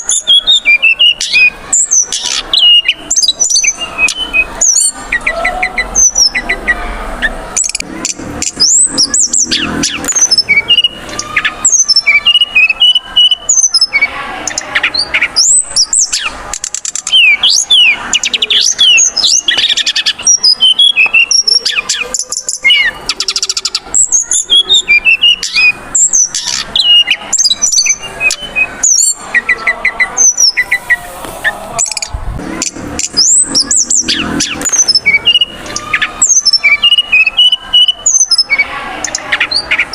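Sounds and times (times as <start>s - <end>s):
bird whistles and trills: 0.0s - 39.9s.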